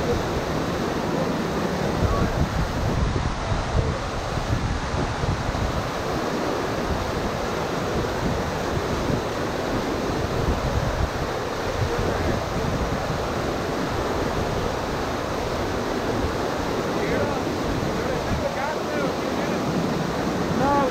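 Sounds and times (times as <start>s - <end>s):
whitewater rapids rushing: 0.0s - 20.9s.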